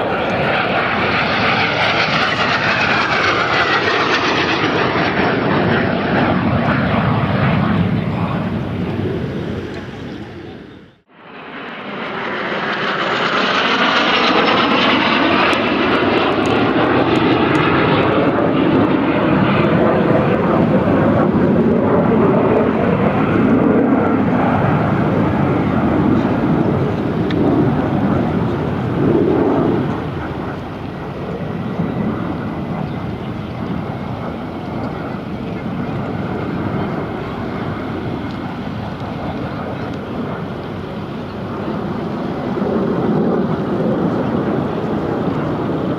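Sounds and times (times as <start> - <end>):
jets flying past: 0.0 - 45.9.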